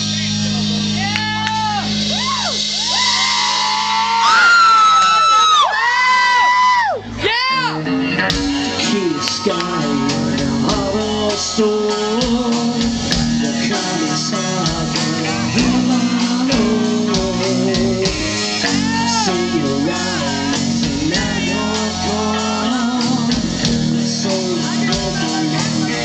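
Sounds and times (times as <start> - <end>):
rock band playing live: 0.0 - 5.2, 5.9 - 26.0.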